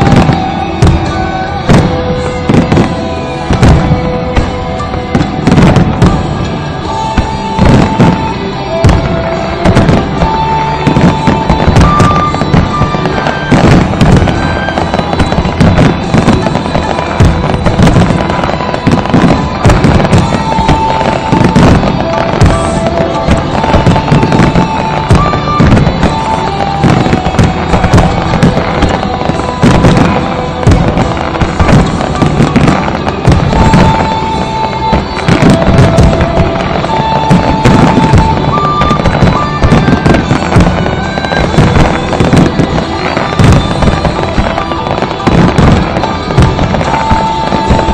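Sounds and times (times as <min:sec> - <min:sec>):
fireworks bangs and crackles: 0:00.0 - 0:47.9
music with long held notes: 0:00.0 - 0:47.9.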